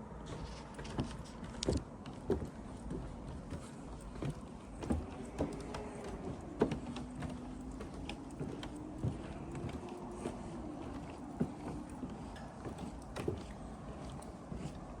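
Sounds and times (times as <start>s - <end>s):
footsteps on wooden boardwalk: 0.0s - 15.0s.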